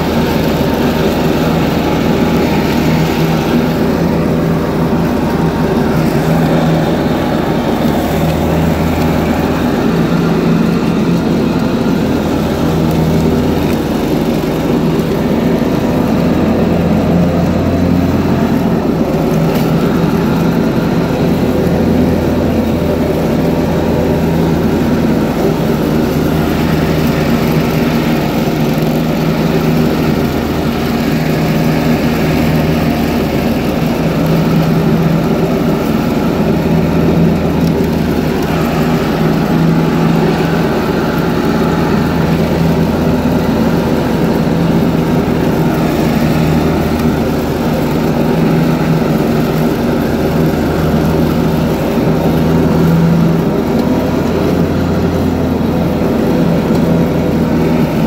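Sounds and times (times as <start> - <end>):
garden tractor mowing: 0.0 - 58.0.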